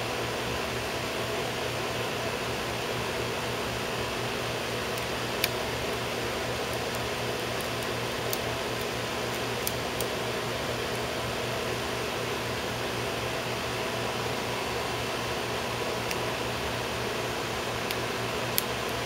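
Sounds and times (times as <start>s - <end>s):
fan-like hum: 0.0s - 19.0s.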